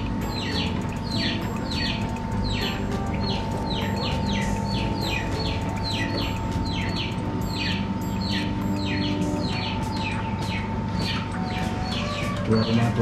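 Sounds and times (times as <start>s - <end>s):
thin steady tone: 0.0s - 10.5s
bird chirping: 0.0s - 13.0s
steady hum: 0.0s - 13.0s.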